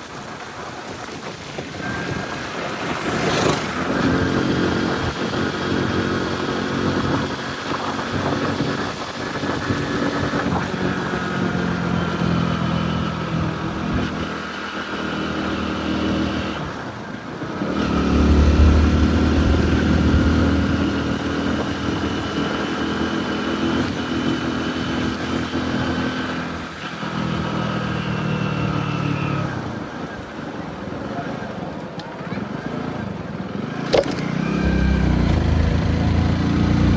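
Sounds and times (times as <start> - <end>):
road noise: 0.0 - 36.9
motorcycle engine running: 1.8 - 29.4, 33.6 - 36.9.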